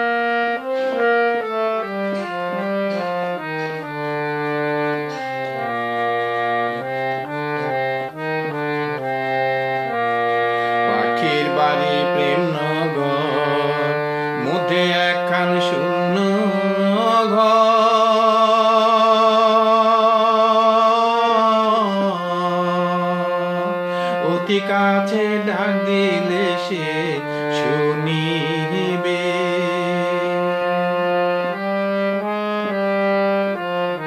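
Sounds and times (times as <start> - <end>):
instrumental folk melody: 0.0 - 34.0.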